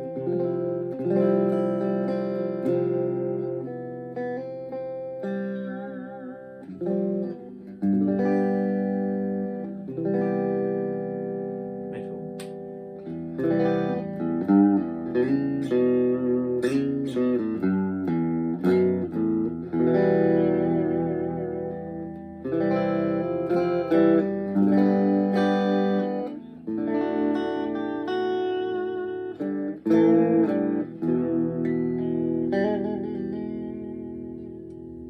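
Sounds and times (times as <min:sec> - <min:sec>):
clean electric guitar: 0:00.0 - 0:35.0.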